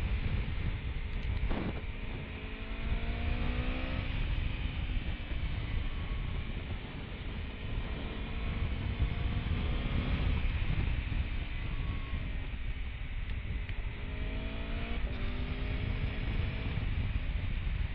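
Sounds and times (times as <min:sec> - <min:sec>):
motorcycle engine running: 0:00.0 - 0:17.9
wind rumble on microphone: 0:00.0 - 0:17.9.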